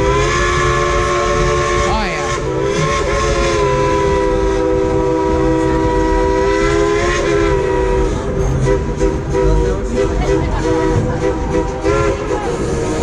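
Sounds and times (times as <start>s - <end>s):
low rumble of train: 0.0s - 13.0s
steam locomotive whistle: 0.0s - 13.0s.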